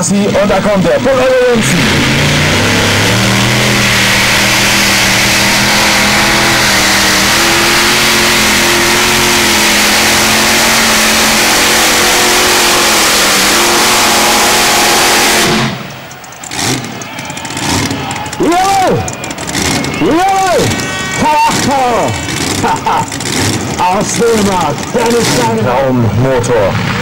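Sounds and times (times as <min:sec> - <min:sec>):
tractor engine at full throttle: 0:00.0 - 0:27.0.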